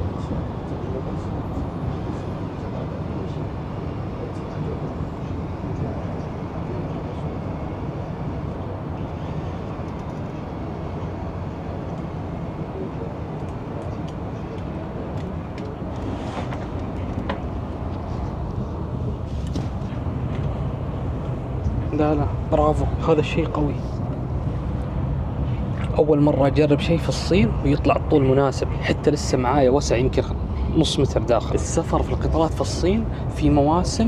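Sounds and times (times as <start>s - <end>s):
train rumbling at speed: 0.0s - 34.0s.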